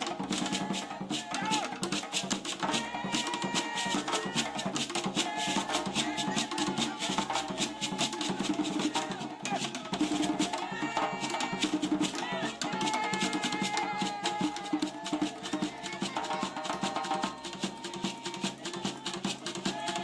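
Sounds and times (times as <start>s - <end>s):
drums: 0.0s - 20.0s
shakers: 0.0s - 20.0s
voices singing held notes: 0.0s - 20.0s.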